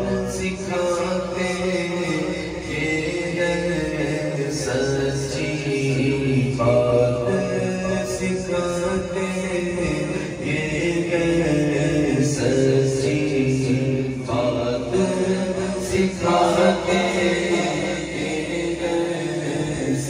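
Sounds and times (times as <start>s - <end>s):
man singing devotional poem: 0.0s - 20.0s.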